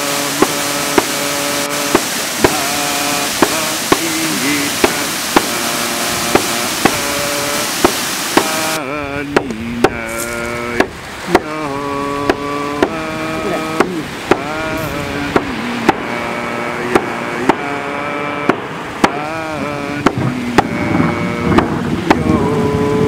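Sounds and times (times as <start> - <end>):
drum beats: 0.0 - 22.4
voices singing: 0.0 - 23.0
waterfall rushing water: 0.0 - 23.0.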